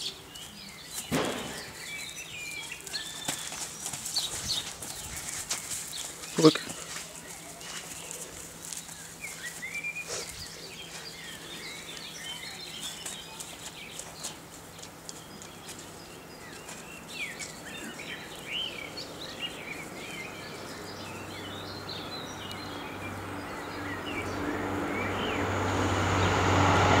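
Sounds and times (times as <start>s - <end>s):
small birds chirping: 0.0s - 26.4s.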